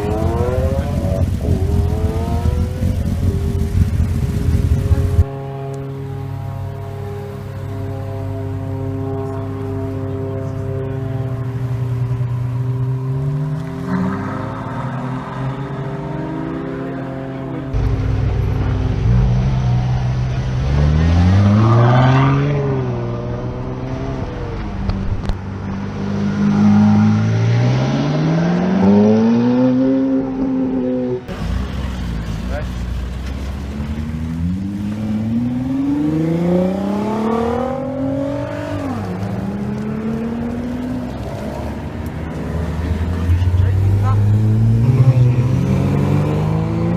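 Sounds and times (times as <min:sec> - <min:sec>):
sports car engine accelerating: 0:00.0 - 0:46.9.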